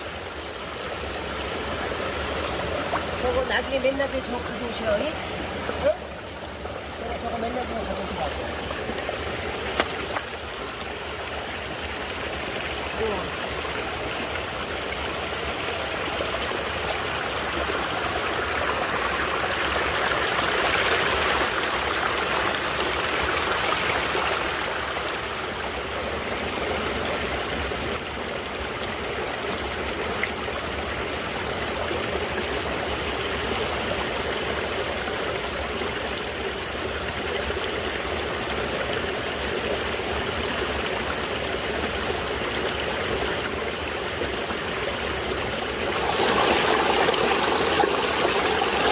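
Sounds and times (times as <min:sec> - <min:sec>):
creek flowing over rocks: 0:00.0 - 0:48.9.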